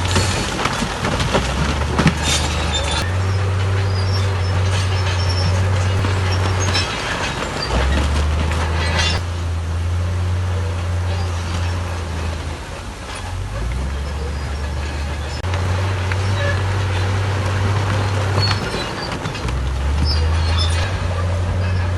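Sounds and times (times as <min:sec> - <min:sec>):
diesel engine droning: 0:00.0 - 0:21.9
metallic clanks and rattles: 0:00.0 - 0:21.9.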